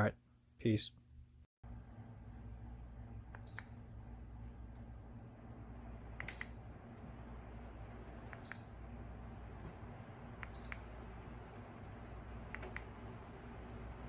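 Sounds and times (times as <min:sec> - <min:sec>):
steady low hum: 0:01.0 - 0:14.0.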